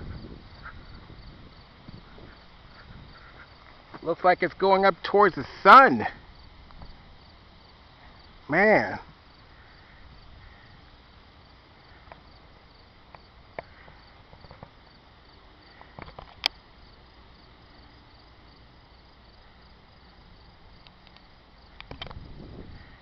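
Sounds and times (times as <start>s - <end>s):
crickets chirping faintly: 0.0s - 23.0s.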